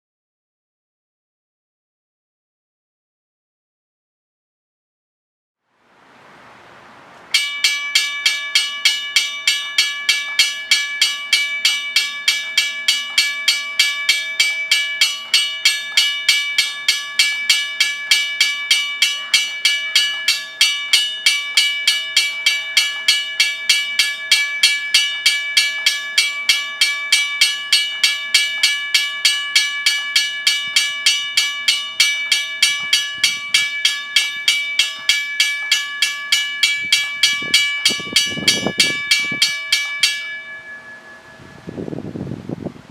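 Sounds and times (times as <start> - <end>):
railroad crossing bell ringing: 7.3 - 42.7.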